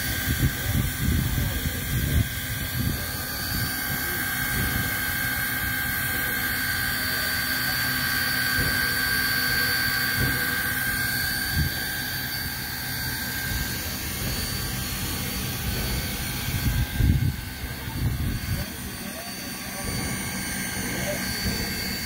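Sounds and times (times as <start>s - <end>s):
high even whine: 0.0s - 22.0s
steam locomotive hissing: 0.0s - 22.0s.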